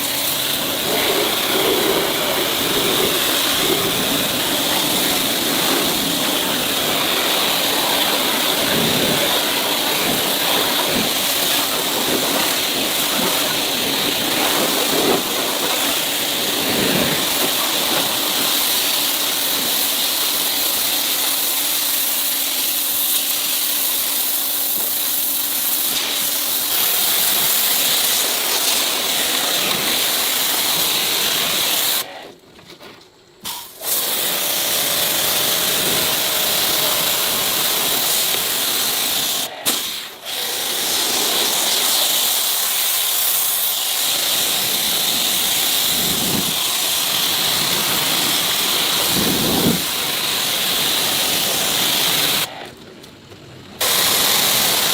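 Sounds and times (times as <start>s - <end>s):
steady hiss: 0.0s - 32.1s, 33.4s - 52.5s, 53.8s - 54.9s.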